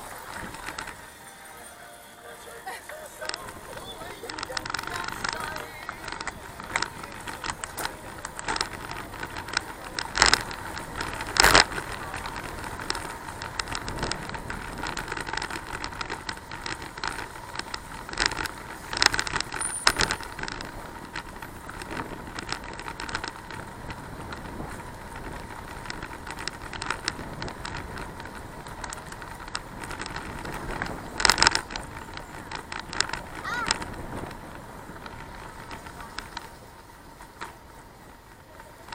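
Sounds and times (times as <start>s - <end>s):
bicycle rattling and clicking: 0.0s - 38.9s
tyre and wind rush: 3.4s - 38.3s.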